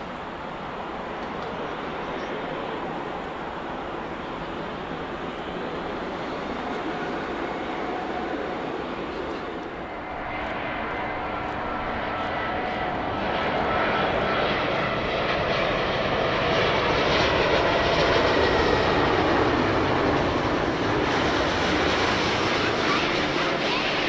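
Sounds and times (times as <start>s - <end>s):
jet airliner engines approaching: 0.0s - 24.0s.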